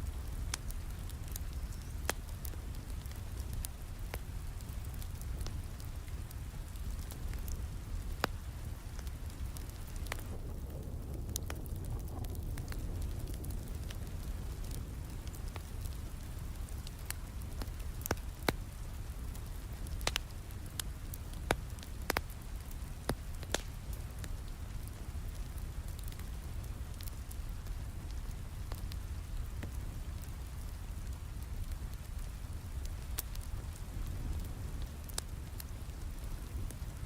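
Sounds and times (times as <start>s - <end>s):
steady rain: 0.0s - 37.0s
wood fire crackling: 0.0s - 37.0s.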